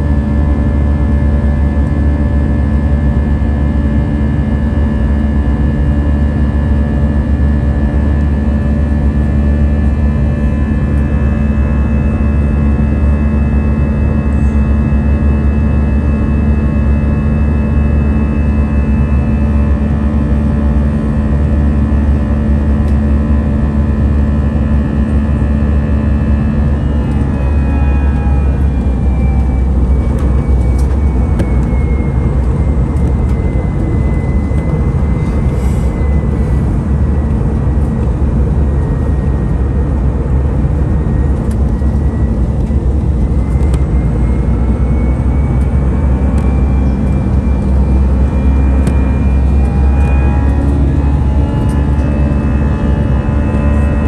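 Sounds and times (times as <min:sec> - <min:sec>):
aircraft cabin engine roar: 0:00.0 - 0:54.0
faint high whine: 0:00.0 - 0:54.0.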